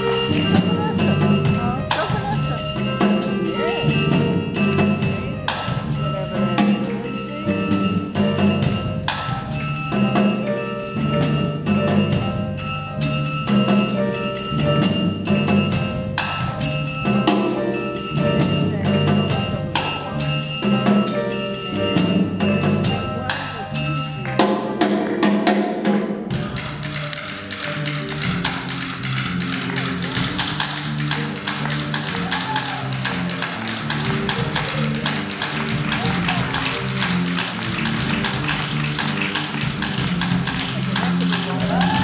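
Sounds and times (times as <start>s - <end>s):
irregular percussion strikes: 0.0s - 42.0s
low notes: 0.0s - 42.0s.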